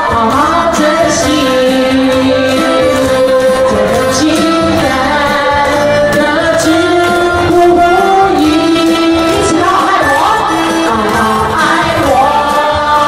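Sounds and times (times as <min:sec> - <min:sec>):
musical accompaniment with beat: 0:00.0 - 0:13.0
person singing: 0:00.0 - 0:13.0.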